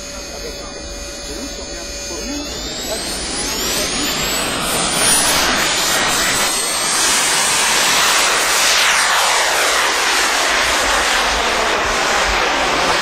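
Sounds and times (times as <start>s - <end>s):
model jet roar and turbine whine: 0.0s - 13.0s.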